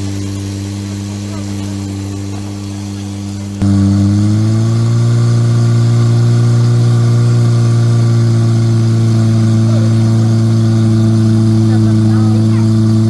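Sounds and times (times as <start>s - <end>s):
pump engine running: 0.0s - 13.0s.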